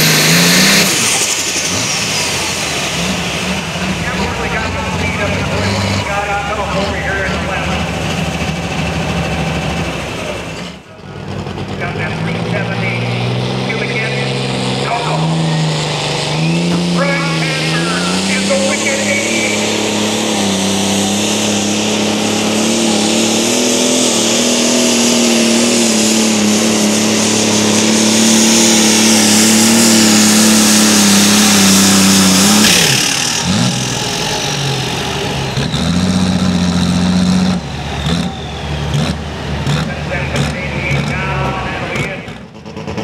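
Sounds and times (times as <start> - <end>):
tractor engine at high revs: 0.0 - 43.0.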